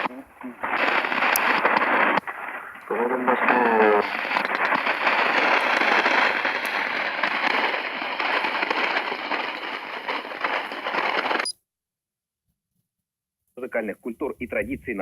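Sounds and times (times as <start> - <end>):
radio static hiss and crackle: 0.0 - 11.5, 13.6 - 15.0.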